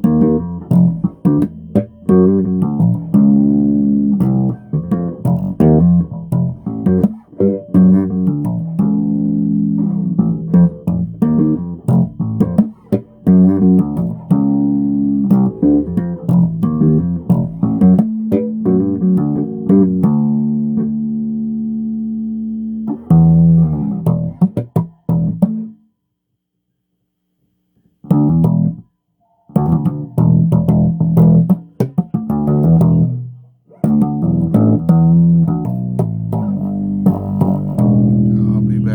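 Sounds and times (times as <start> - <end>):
bass guitar plucked notes: 0.0 - 25.8, 28.1 - 28.8, 29.5 - 38.9.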